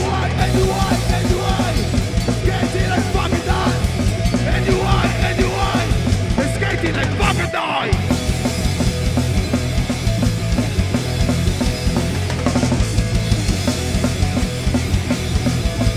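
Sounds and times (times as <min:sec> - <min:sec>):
live punk rock band: 0:00.0 - 0:15.9.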